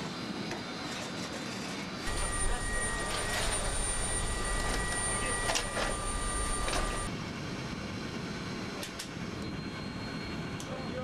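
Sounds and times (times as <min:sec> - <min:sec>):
high machinery whines: 0:00.0 - 0:11.0
machinery rumble: 0:02.0 - 0:11.0.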